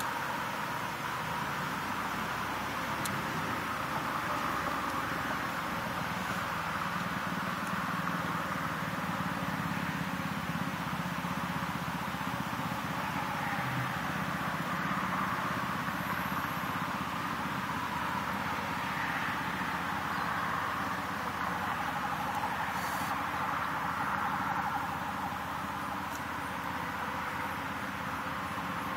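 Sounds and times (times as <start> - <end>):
distant road traffic roar: 0.0 - 28.9.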